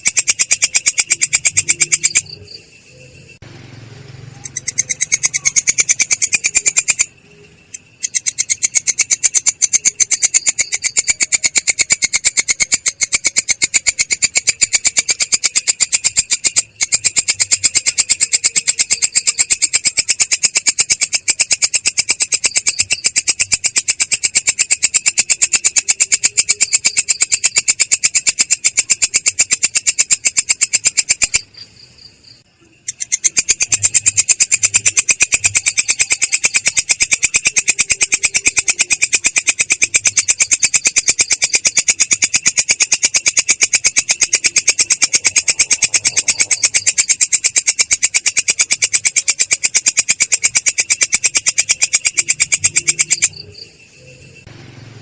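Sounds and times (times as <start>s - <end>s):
insect stridulating: 0.0s - 54.5s.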